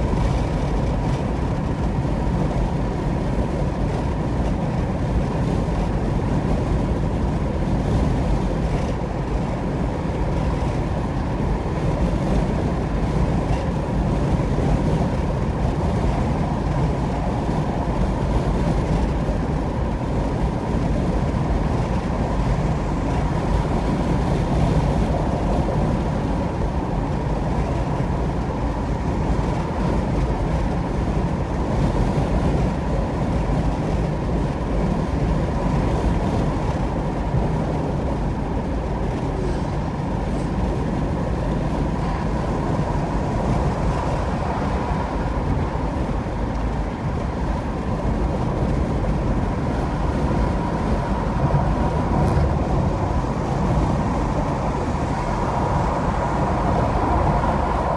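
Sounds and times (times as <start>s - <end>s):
car road and tyre noise: 0.0s - 57.9s.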